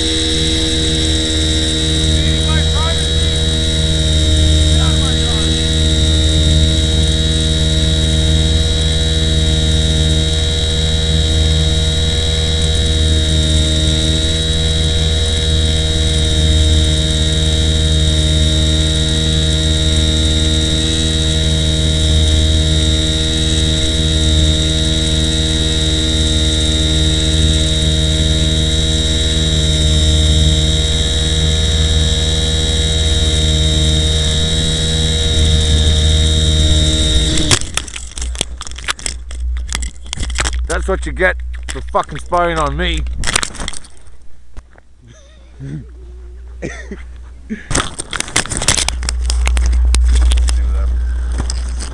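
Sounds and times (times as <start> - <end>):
electrical hum and buzz: 0.0 - 51.9
high whine: 0.0 - 51.9.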